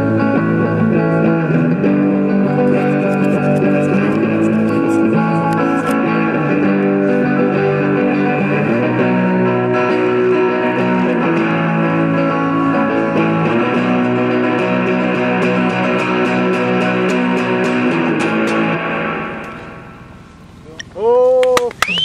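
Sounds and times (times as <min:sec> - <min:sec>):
electric guitar ringing notes: 0:00.0 - 0:20.6.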